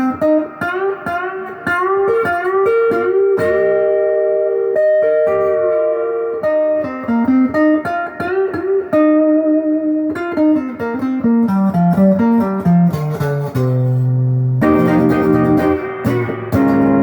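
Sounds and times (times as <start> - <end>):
electric guitar lead line: 0.0 - 17.0.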